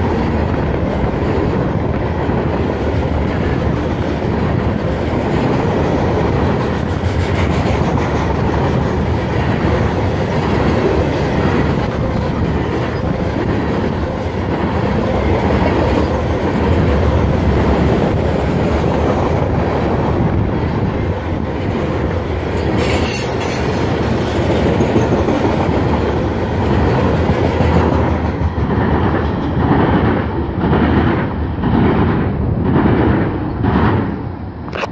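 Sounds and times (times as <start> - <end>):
freight train rumble: 0.0 - 34.9
wheels clacking over rail joints: 0.0 - 34.9.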